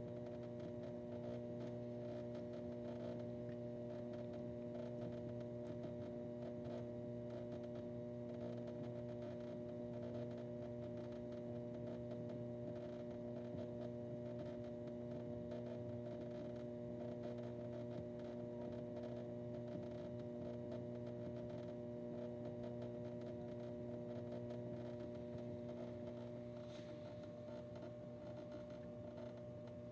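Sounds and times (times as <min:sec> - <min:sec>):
pottery wheel motor hum: 0:00.0 - 0:29.9.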